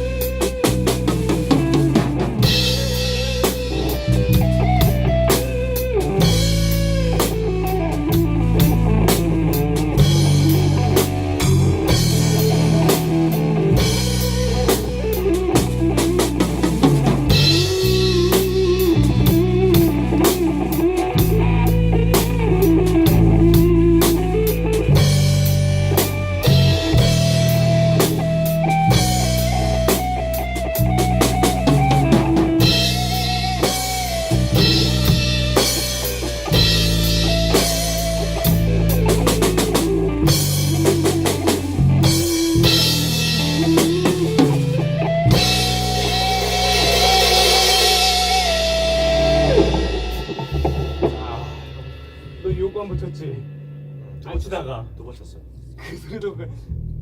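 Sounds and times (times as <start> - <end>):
drum kit: 0.0 - 56.2
bass guitar low notes: 0.0 - 57.0
guitar melody: 0.0 - 57.0.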